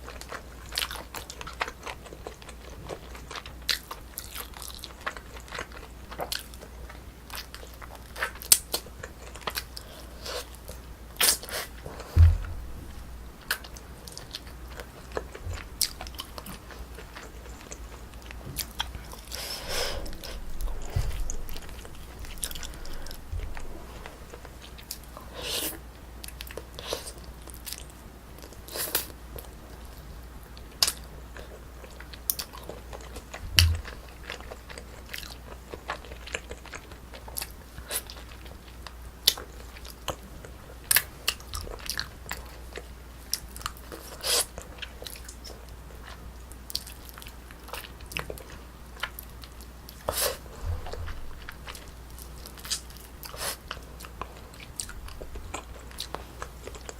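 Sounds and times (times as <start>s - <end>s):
close-miked chewing and biting: 0.0s - 56.9s.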